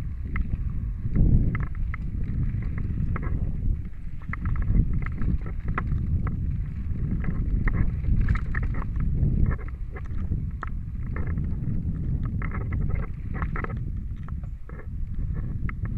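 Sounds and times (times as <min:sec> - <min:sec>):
bike clicks and rattles: 0:00.0 - 0:15.9
bike tyres rumbling on dirt: 0:00.0 - 0:15.9
wind buffeting microphone: 0:00.0 - 0:15.9.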